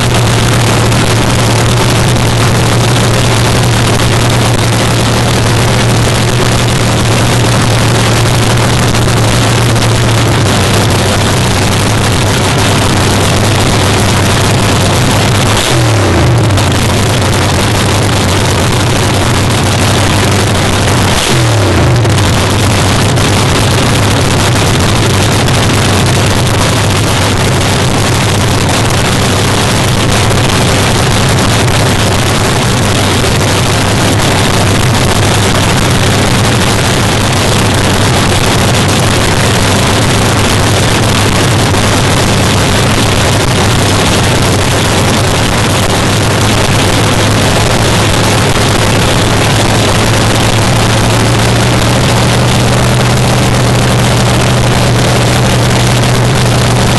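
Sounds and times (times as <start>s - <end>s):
loud car engine idling: 0.0s - 56.9s.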